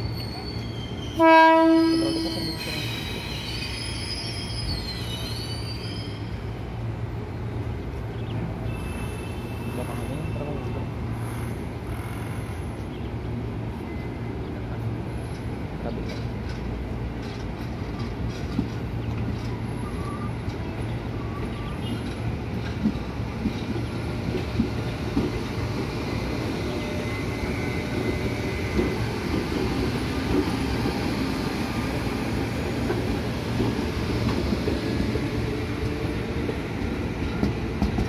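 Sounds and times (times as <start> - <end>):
electric train rolling past: 0.0 - 38.0.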